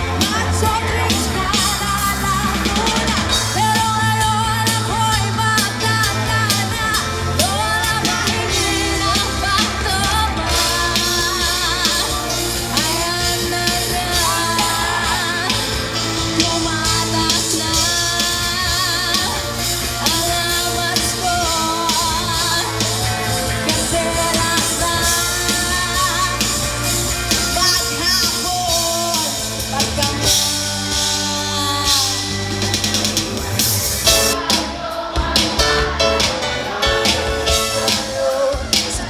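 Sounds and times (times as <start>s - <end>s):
drum beat: 0.0s - 39.0s
guitar: 0.0s - 39.0s
person singing: 0.0s - 39.0s.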